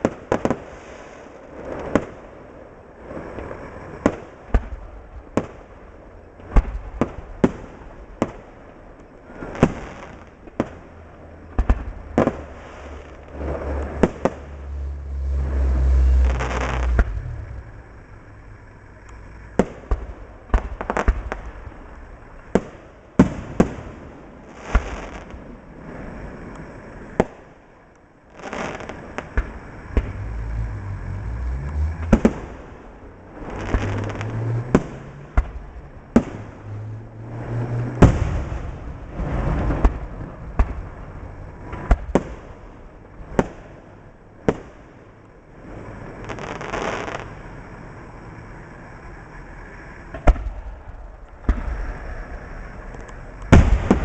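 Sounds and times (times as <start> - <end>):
fireworks bangs: 0.0 - 26.0, 28.3 - 30.5, 32.0 - 36.7, 37.3 - 43.8, 45.6 - 47.4, 50.1 - 54.0
fireworks crackling: 0.0 - 54.0.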